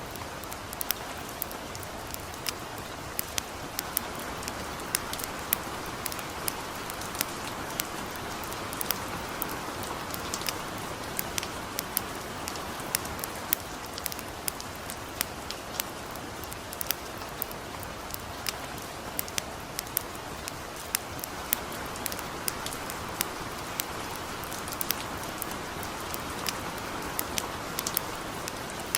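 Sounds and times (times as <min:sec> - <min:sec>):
campfire crackling and popping: 0:00.0 - 0:28.9
gentle steady rain: 0:00.0 - 0:28.9.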